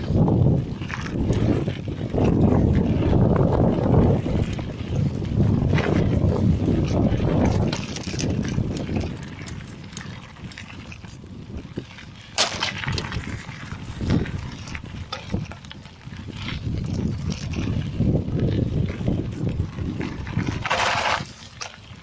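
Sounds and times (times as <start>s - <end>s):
bike clicks and rattles: 0.0s - 22.0s
bike rolling on dirt trail: 0.0s - 22.0s
wind rumble on microphone: 0.0s - 22.0s.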